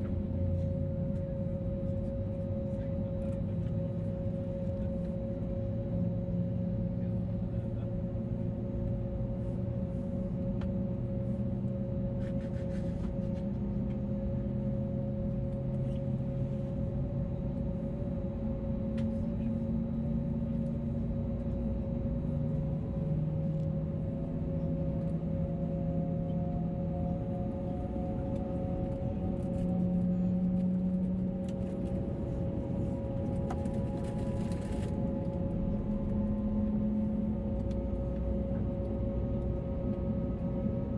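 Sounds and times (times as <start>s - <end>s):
airplane engine drone in cabin: 0.0s - 40.9s
faint whine: 0.0s - 40.9s.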